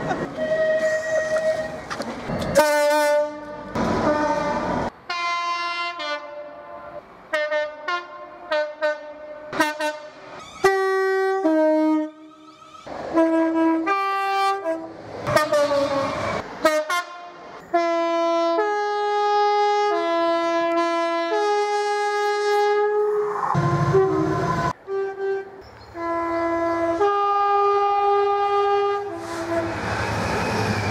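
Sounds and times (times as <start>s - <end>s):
passing train rush: 0.0s - 30.9s
two-tone train horns: 0.4s - 1.8s, 2.6s - 12.5s, 13.1s - 29.9s.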